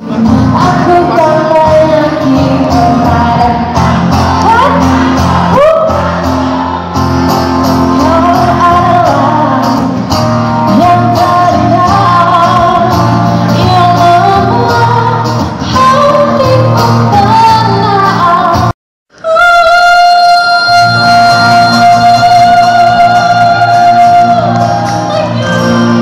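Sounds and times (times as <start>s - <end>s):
woman singing into a microphone: 0.0s - 6.1s, 7.9s - 10.0s, 10.6s - 25.8s
musical accompaniment: 0.0s - 18.7s, 20.8s - 26.0s.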